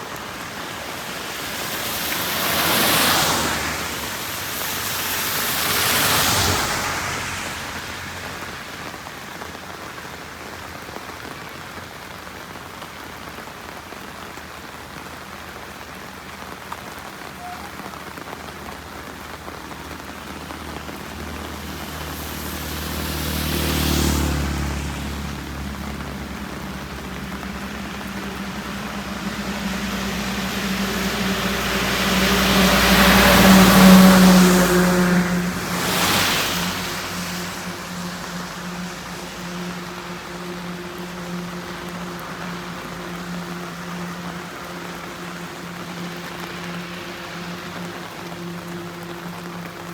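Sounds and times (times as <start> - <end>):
heavy rain hissing on road: 0.0 - 49.9
vehicle engine hum: 0.0 - 49.9
vehicles passing with tyre spray: 0.0 - 49.9.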